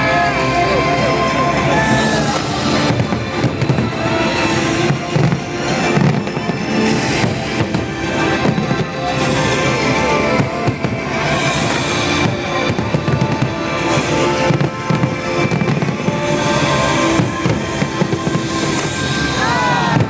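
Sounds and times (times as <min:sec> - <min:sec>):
fireworks popping and crackling: 0:00.0 - 0:20.0
music playing: 0:00.0 - 0:20.0.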